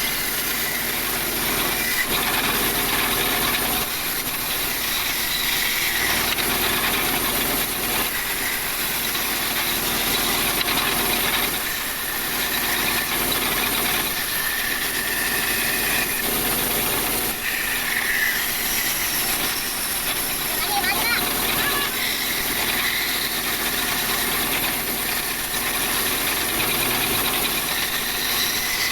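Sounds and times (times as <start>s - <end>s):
woodworking machinery running: 0.0s - 28.9s.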